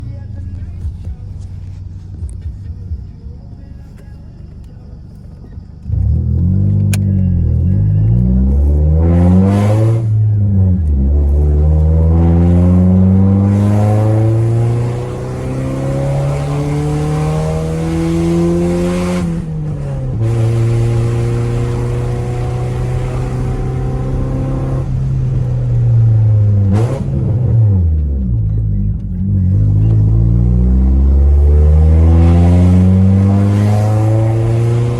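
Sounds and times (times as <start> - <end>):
car engine pulling hard: 0.0 - 34.9.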